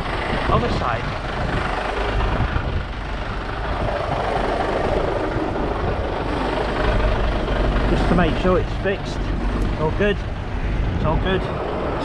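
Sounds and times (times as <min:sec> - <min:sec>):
lorry diesel engine idling: 0:00.0 - 0:12.0
passing traffic road noise: 0:00.0 - 0:12.0.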